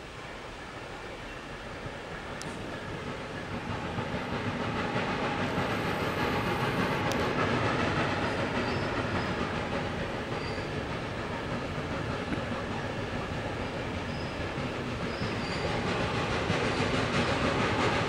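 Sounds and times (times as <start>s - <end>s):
steam locomotive running: 0.0s - 18.0s.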